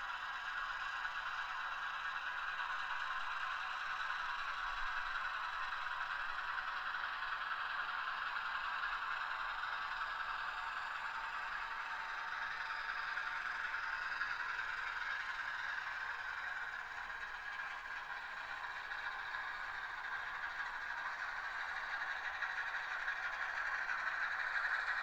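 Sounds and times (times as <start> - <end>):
model train diesel engine sound: 0.0 - 25.0.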